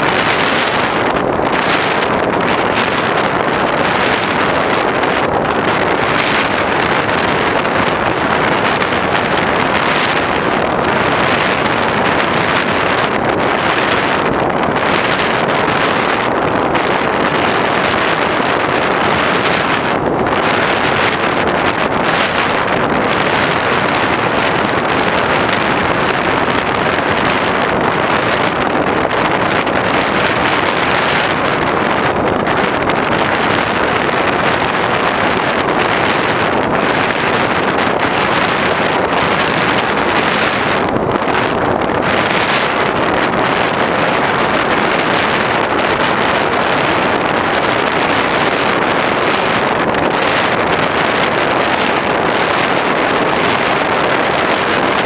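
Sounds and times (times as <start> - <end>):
airflow rushing: 0.0 - 55.0.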